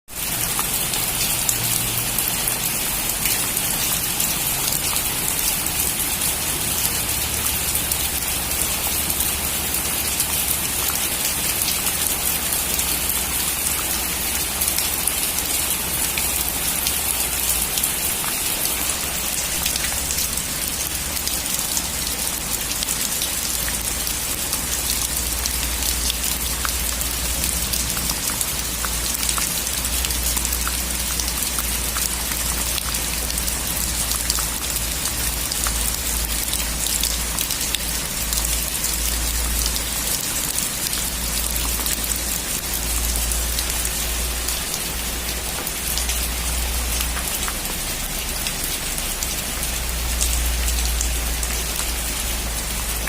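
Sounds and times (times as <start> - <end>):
heavy rain on a metal roof: 0.1 - 53.0.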